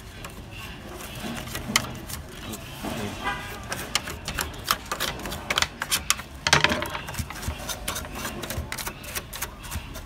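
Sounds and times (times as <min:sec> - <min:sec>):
brush scrubbing metal: 0:00.0 - 0:06.4, 0:07.0 - 0:10.0.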